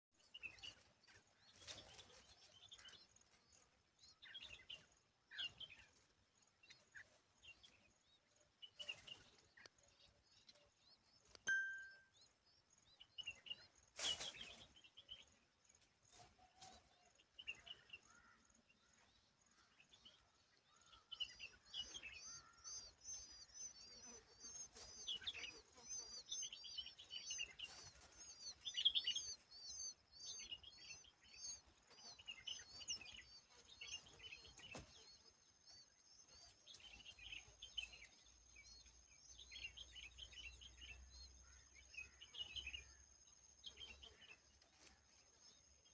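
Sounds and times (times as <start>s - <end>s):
small birds chirping: 0.1s - 45.9s.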